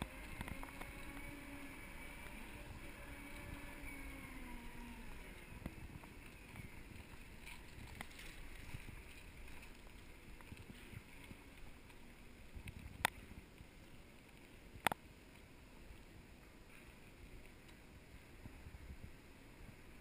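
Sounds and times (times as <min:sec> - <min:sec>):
wind on microphone: 0:00.0 - 0:13.8, 0:17.0 - 0:20.0
low rumble of segway riding: 0:00.0 - 0:20.0.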